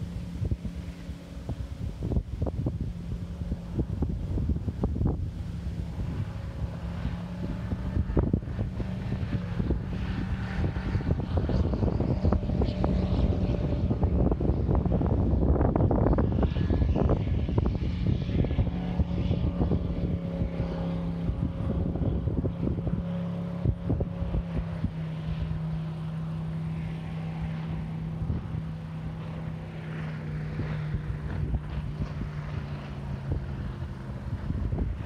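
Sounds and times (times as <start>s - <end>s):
speedboat engine running: 0.0s - 35.0s
wind buffeting microphone: 0.0s - 35.0s.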